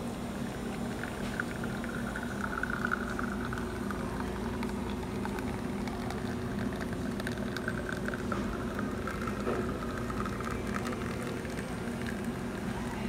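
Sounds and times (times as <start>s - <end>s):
espresso machine pump humming: 0.0s - 13.0s
espresso trickling into a glass: 0.4s - 13.0s.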